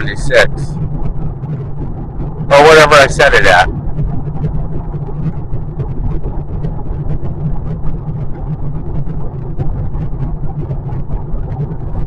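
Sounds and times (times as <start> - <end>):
road and tyre noise in car cabin: 0.0 - 12.0.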